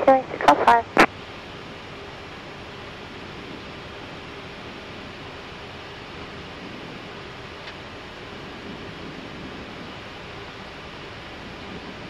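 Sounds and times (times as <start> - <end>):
airflow and air-conditioning hiss: 0.0 - 12.0
faint hum: 0.0 - 12.0.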